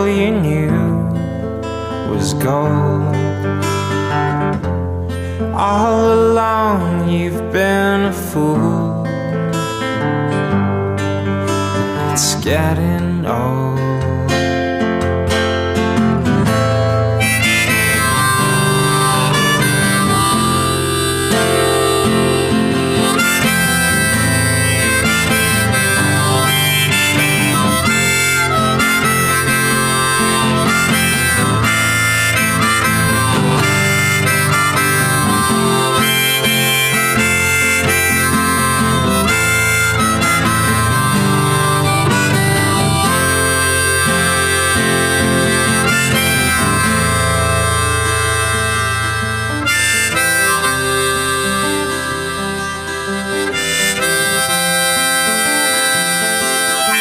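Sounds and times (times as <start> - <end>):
instrumental pop music: 0.0 - 57.0.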